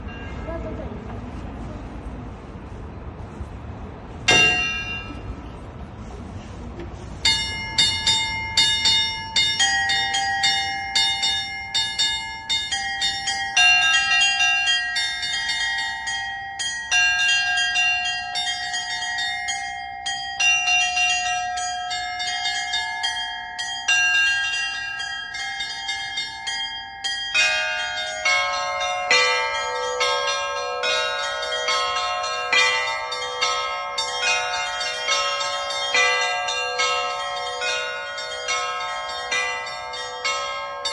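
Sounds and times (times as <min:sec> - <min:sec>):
small high bells struck rhythmically: 0:00.0 - 0:00.9, 0:04.3 - 0:05.7, 0:07.2 - 0:40.9
sustained middle bells: 0:00.0 - 0:01.1, 0:04.3 - 0:05.8, 0:07.2 - 0:40.9
church bells pealing: 0:00.0 - 0:01.7, 0:04.1 - 0:40.9
low bells ringing: 0:00.0 - 0:01.8, 0:04.1 - 0:40.9.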